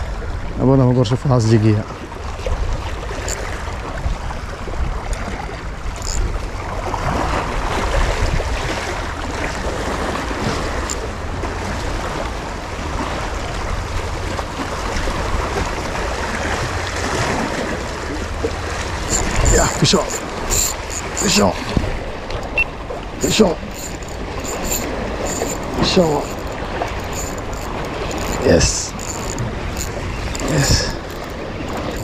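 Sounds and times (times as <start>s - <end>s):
wind buffeting microphone: 1.9s - 32.0s
sea waves washing against rocks: 2.8s - 32.0s.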